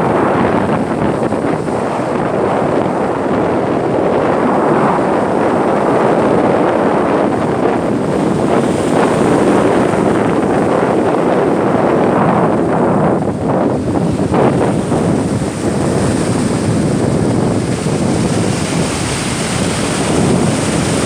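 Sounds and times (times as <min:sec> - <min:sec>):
breaking waves rushing: 0:00.0 - 0:21.0
wind on microphone: 0:00.0 - 0:21.0.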